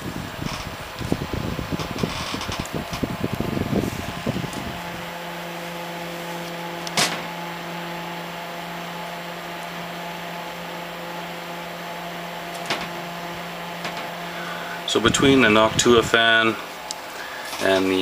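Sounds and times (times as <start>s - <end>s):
computer fan humming: 0.0s - 18.0s.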